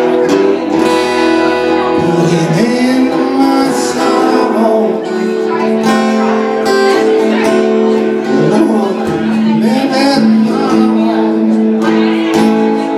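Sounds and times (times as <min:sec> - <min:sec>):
acoustic guitar: 0:00.0 - 0:12.9
person singing: 0:00.0 - 0:12.9.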